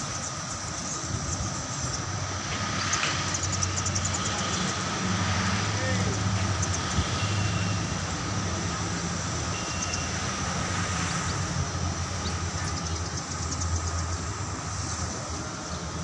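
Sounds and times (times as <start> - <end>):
outdoor background din: 0.0 - 16.0.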